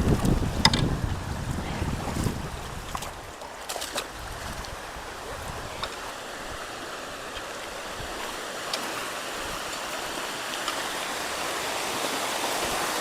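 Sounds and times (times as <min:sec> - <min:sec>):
creek water rushing through culvert: 0:00.0 - 0:13.0.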